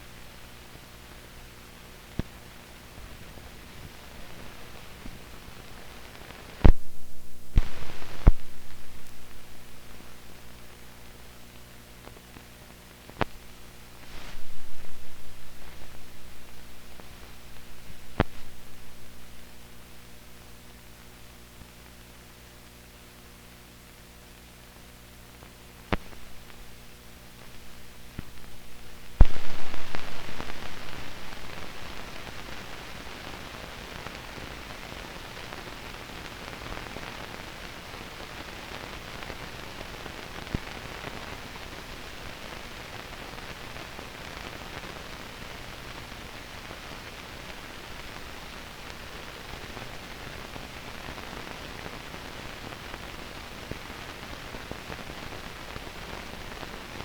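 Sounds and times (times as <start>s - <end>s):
film soundtrack hiss and crackle: 0.0s - 57.0s.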